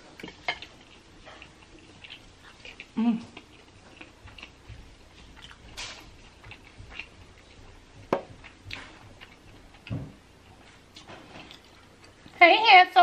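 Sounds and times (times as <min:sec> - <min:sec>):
chewing crunchy food: 0:00.0 - 0:12.4.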